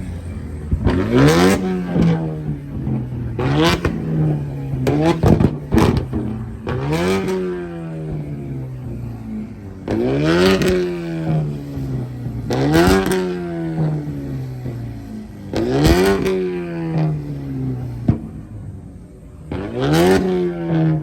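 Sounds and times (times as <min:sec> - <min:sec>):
car engine revving: 0:00.0 - 0:21.0
engine crackle: 0:00.0 - 0:21.0.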